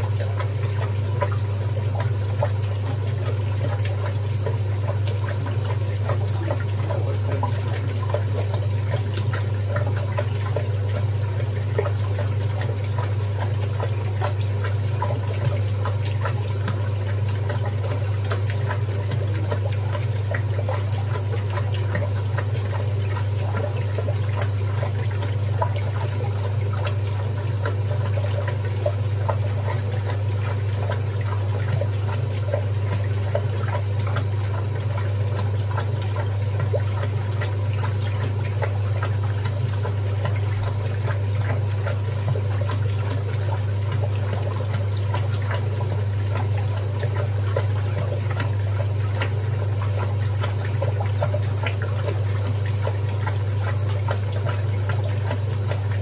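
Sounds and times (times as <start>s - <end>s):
washing machine motor hum: 0.0s - 56.0s
water sloshing in drum: 0.0s - 56.0s.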